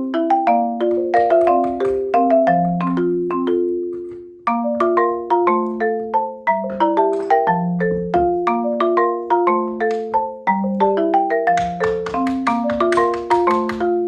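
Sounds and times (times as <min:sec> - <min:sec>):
marimba melody: 0:00.0 - 0:14.0.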